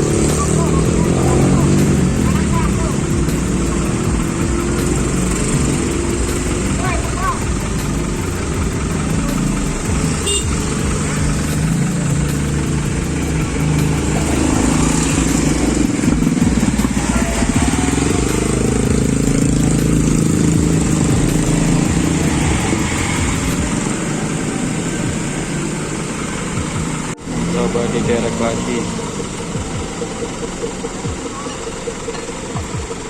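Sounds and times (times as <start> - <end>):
truck diesel engine under load: 0.0 - 33.0.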